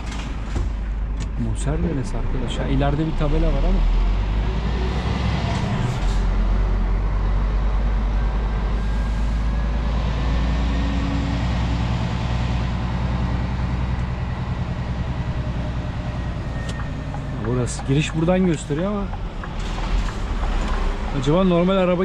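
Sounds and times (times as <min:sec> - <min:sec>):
diesel truck engine droning: 0:00.0 - 0:22.0.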